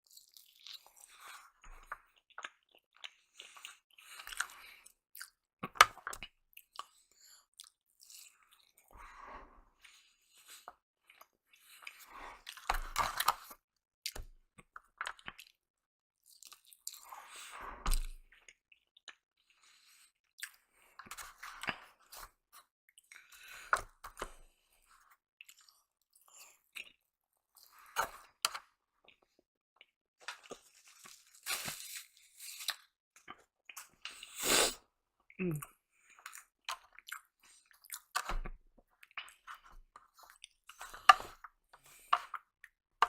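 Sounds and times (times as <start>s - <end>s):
person chewing food: 0.0s - 34.8s, 35.5s - 42.8s.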